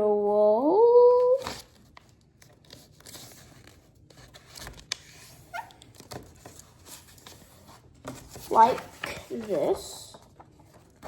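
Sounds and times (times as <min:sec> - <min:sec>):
paper rustling and creasing: 0:01.2 - 0:11.0.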